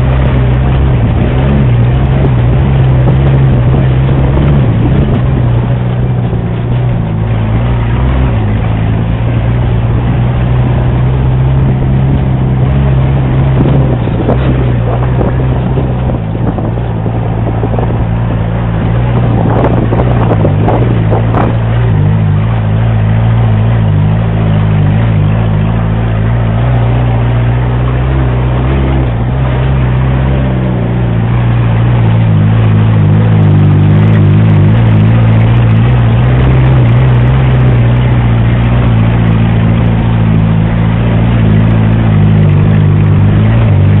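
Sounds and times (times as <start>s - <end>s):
off-road vehicle engine running: 0.0s - 44.0s.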